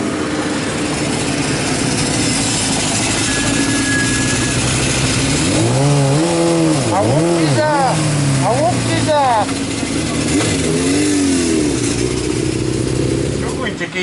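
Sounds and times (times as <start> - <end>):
motorcycle engine at speed: 0.0 - 14.0.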